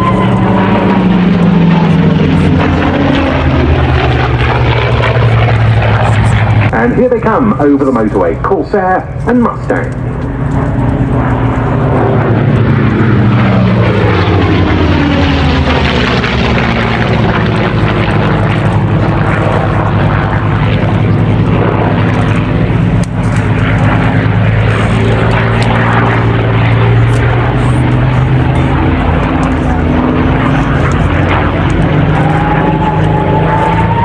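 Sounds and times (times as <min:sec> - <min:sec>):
propeller planes flying past: 0:00.0 - 0:34.0.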